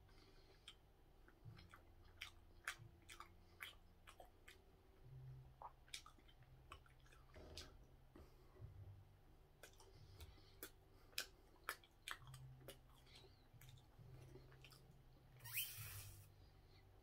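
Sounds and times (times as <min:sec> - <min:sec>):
man chewing: 0:00.0 - 0:08.8, 0:09.5 - 0:16.9.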